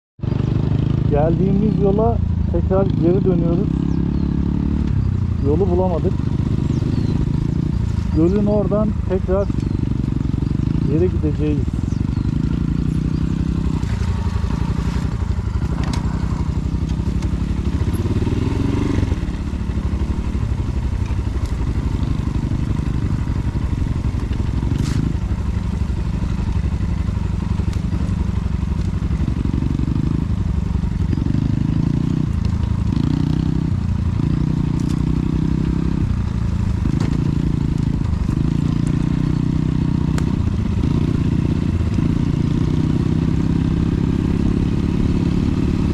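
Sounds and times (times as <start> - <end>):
dirt bike engine revving: 0.2 - 45.9.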